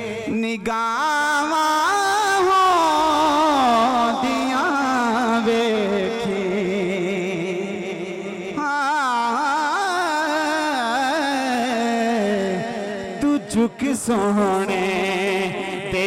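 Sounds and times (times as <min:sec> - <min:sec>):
man singing unaccompanied: 0:00.0 - 0:16.0.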